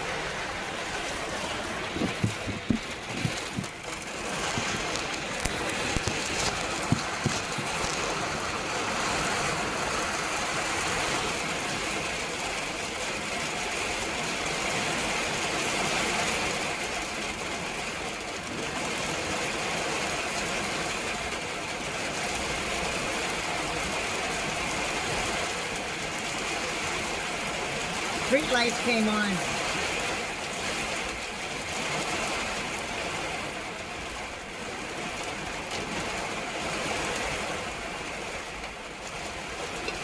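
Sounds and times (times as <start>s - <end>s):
rain falling steadily: 0.0s - 40.0s.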